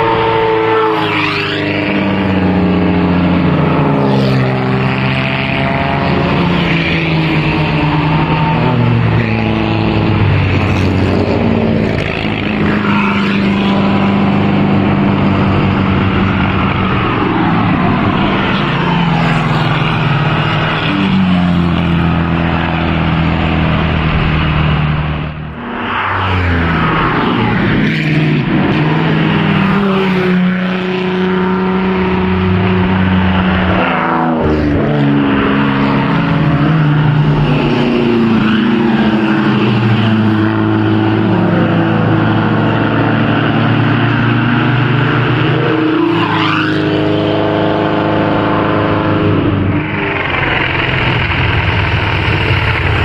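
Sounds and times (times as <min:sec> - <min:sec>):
racing cars driving past: 0:00.0 - 0:53.0.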